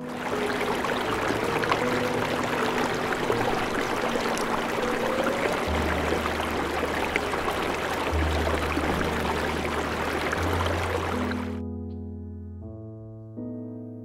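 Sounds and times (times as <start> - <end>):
water rushing: 0.0 - 11.6
low sustained music notes: 0.0 - 14.0.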